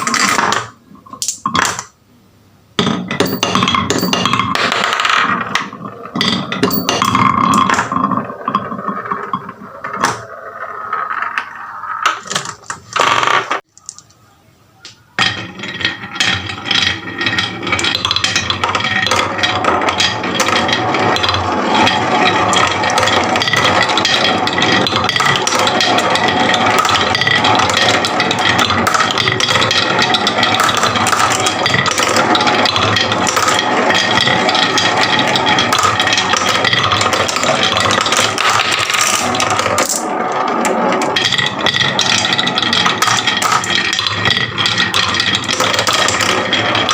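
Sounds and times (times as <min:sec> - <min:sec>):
marbles clattering down wooden run: 0:03.1 - 0:13.6, 0:15.2 - 0:46.9.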